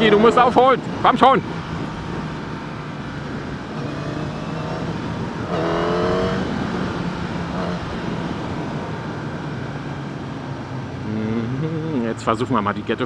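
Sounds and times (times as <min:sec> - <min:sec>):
motorcycle engine revving: 0:01.5 - 0:12.0.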